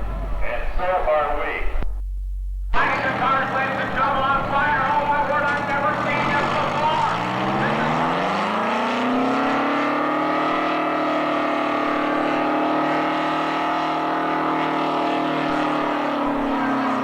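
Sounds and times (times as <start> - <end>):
truck engine at high revs: 2.8 - 17.0.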